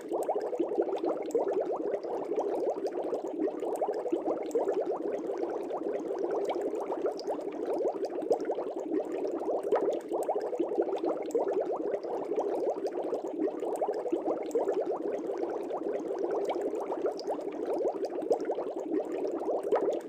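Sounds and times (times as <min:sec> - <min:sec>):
air bubbles in fish tank: 0:00.0 - 0:20.0.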